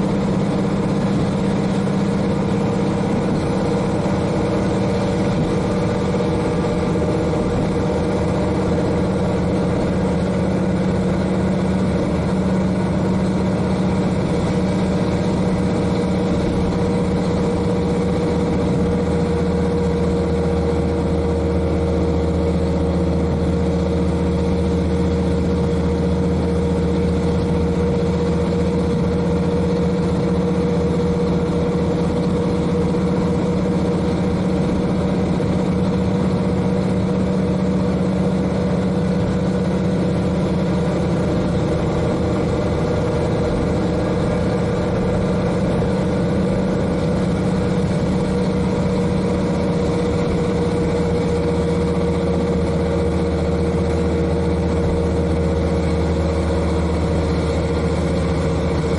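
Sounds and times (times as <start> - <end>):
diesel engine running: 0.0 - 58.9
train running noise: 0.0 - 58.9.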